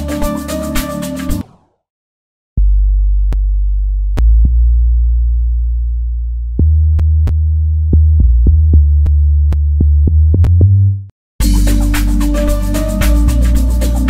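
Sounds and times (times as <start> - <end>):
synth sub-bass line: 2.6 - 14.0.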